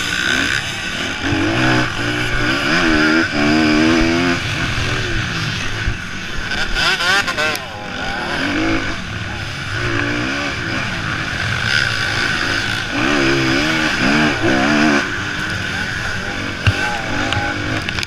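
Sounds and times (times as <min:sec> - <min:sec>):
motocross engines revving: 0:00.0 - 0:18.0.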